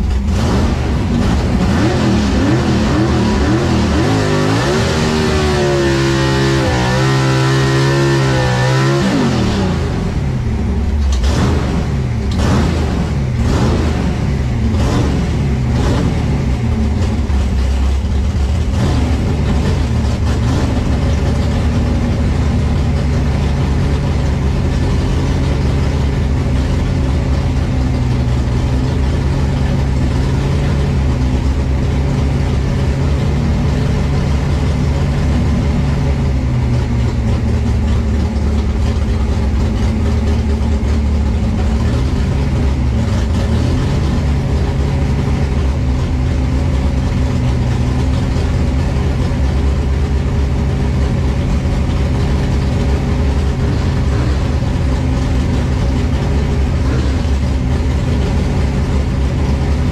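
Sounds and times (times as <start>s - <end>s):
car engine revving and idling: 0.0s - 59.9s.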